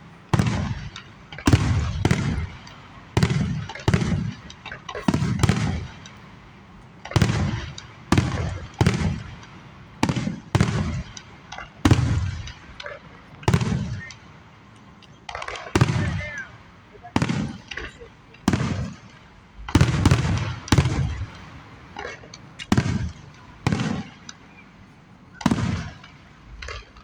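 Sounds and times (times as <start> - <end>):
fireworks booming with echo: 0.0 - 27.0.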